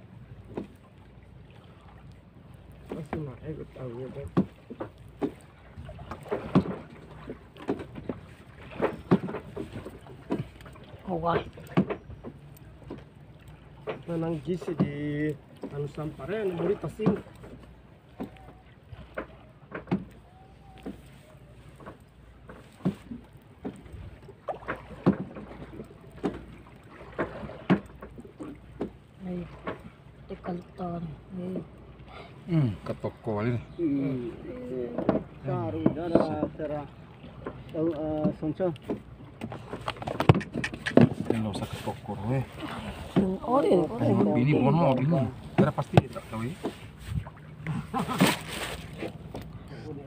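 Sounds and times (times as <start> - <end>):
knocks and slaps against hull: 0.4 - 1.1, 2.8 - 3.4, 4.0 - 30.5, 34.8 - 42.1, 43.0 - 49.5.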